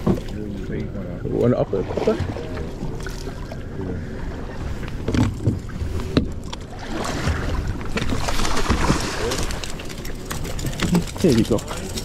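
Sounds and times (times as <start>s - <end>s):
boat engine rumbling: 0.0s - 12.0s
water splashing against hull: 0.0s - 12.0s.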